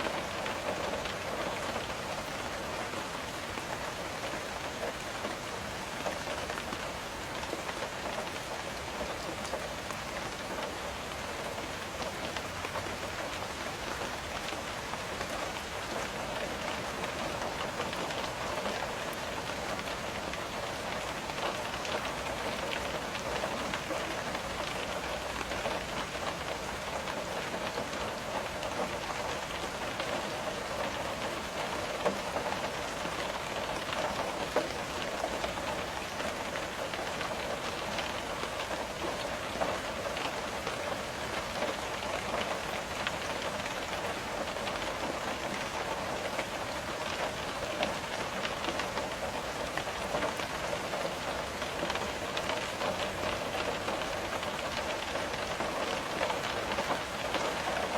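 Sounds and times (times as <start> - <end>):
rain on a window: 0.0 - 57.9.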